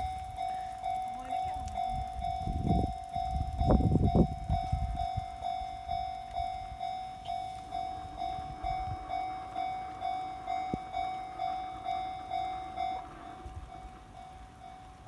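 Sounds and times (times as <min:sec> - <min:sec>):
level crossing warning bell ringing: 0:00.0 - 0:15.0.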